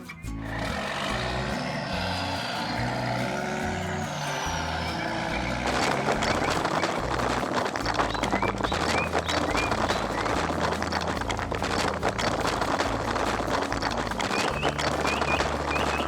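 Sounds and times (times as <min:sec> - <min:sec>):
dense rattling crackle: 0:00.0 - 0:16.0
heavy machinery engine running: 0:00.4 - 0:16.0.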